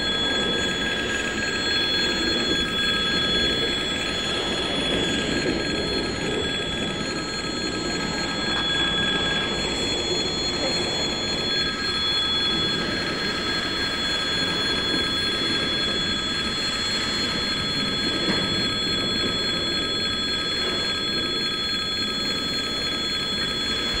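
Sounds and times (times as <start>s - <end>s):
level-crossing warning bell ringing: 0.0s - 24.0s.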